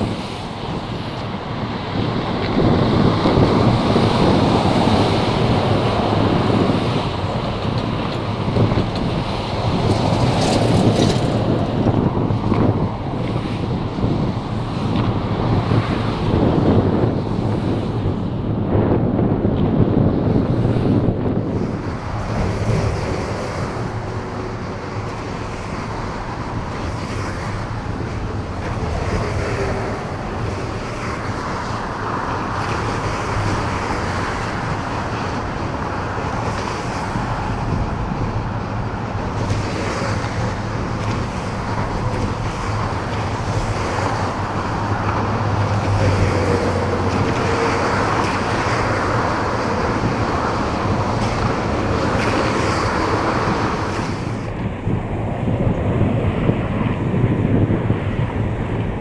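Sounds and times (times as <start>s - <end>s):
barge engine drone: 0.0s - 59.0s
wind buffeting microphone: 0.0s - 59.0s.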